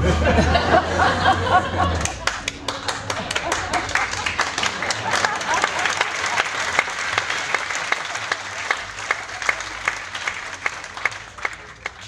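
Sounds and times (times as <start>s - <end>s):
audience applauding: 1.1s - 12.0s
steady beat of loud claps: 1.8s - 12.0s.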